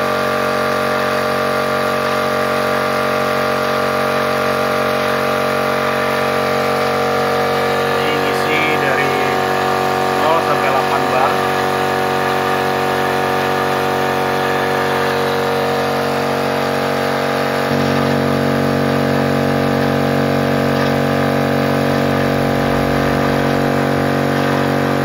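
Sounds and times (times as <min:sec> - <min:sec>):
air compressor running: 0:00.0 - 0:25.0.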